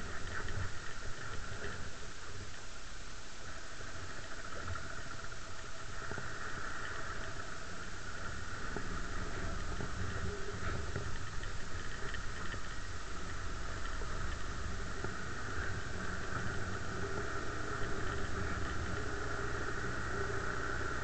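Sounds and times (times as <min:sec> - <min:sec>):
quad engine running: 0:03.6 - 0:21.0.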